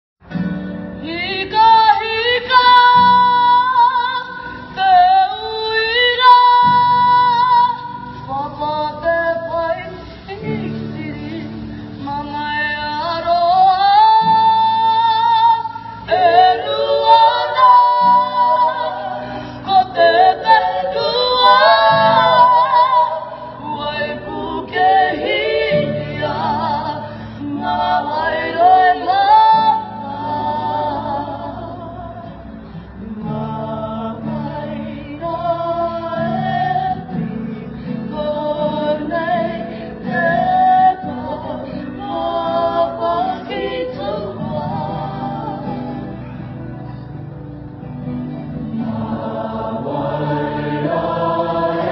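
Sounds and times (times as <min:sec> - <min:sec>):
group singing slow song: 0:00.3 - 0:47.2, 0:47.8 - 0:51.9.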